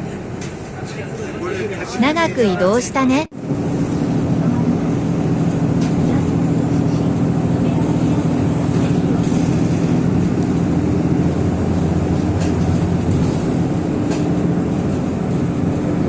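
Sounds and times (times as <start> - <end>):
vehicle interior hum: 2.0 - 16.0.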